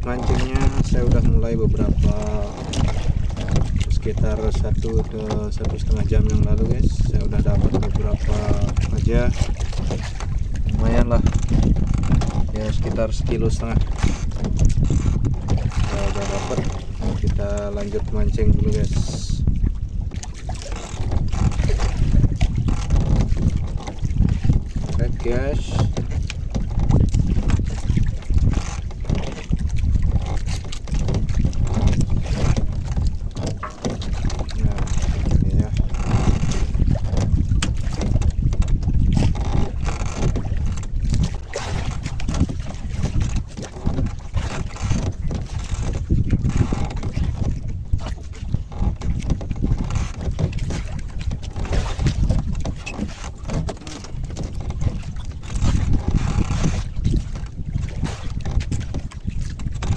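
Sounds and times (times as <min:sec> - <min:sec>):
waves against boat: 0:00.0 - 0:59.9
wind buffeting microphone: 0:00.0 - 0:59.9.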